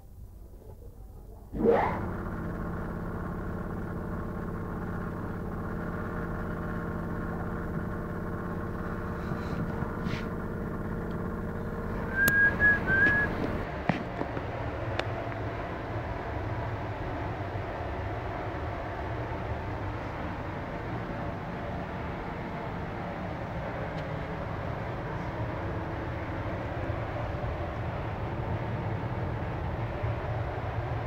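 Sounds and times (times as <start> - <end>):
motor whine and hum: 0.1 - 31.0.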